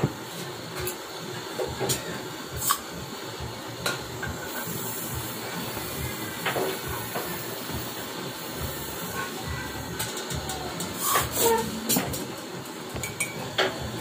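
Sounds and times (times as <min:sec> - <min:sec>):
gas torch flame hissing: 0:00.0 - 0:14.0.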